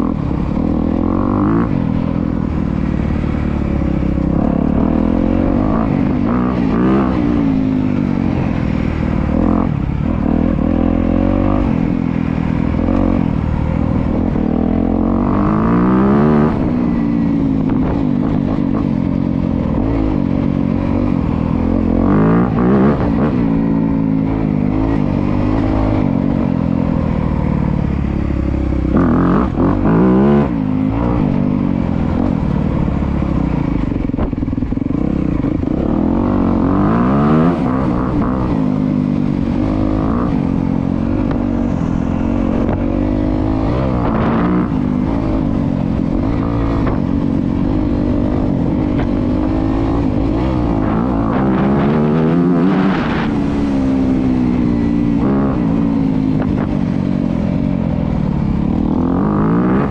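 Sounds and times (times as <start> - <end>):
motocross bike engine revving: 9.2 - 34.3, 34.9 - 56.8, 58.6 - 59.9.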